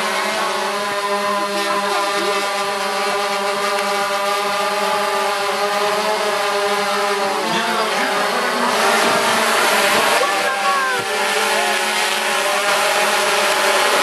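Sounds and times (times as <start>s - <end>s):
drone propellers buzzing: 0.0s - 14.0s
wavering rising and falling tones: 0.0s - 14.0s.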